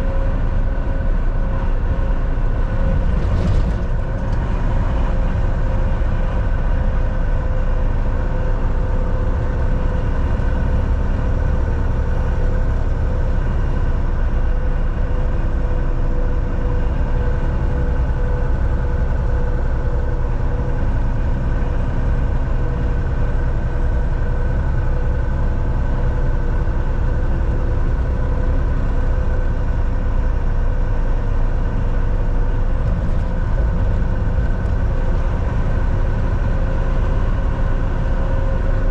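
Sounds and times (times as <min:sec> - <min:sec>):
road rumble: 0:00.0 - 0:38.9
truck engine drone: 0:00.0 - 0:38.9.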